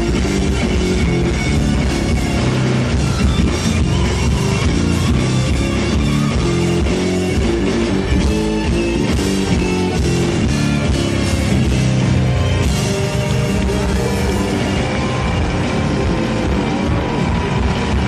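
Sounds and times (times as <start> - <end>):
drum kit: 0.0 - 18.0
electric guitar: 0.0 - 18.0
low bass notes: 0.0 - 18.0.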